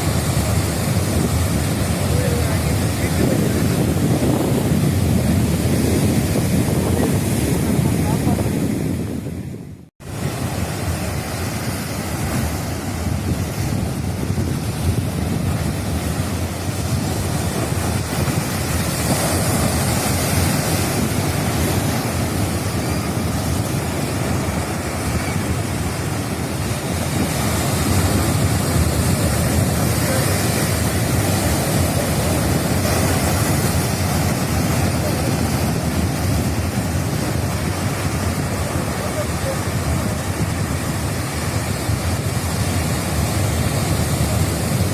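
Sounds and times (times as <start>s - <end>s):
rough sea waves breaking: 0.0s - 44.9s
wind buffeting microphone: 0.0s - 44.9s.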